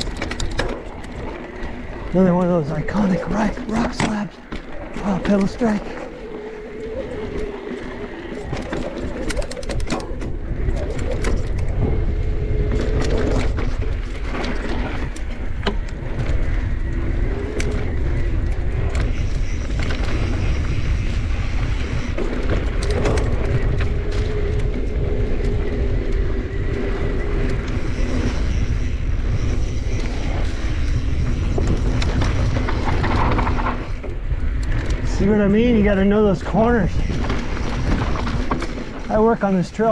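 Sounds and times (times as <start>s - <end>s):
bike clacking and rattling: 0.0s - 39.9s
wind rushing over microphone: 0.0s - 39.9s.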